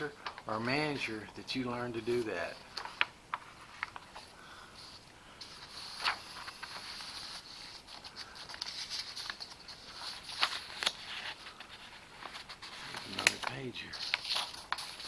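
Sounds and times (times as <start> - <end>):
rustling at a desk: 0.0 - 15.0.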